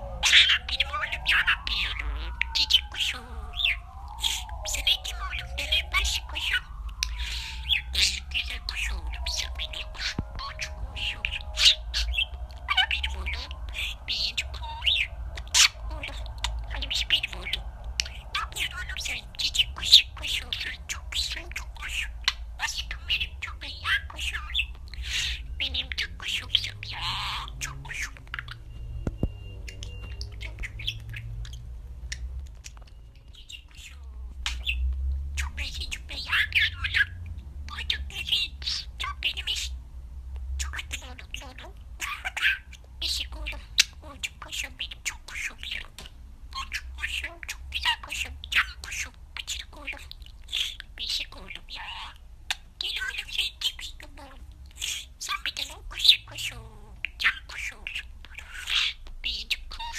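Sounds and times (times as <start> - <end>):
budgerigars chirping and warbling: 0.0 - 39.8, 40.6 - 59.9.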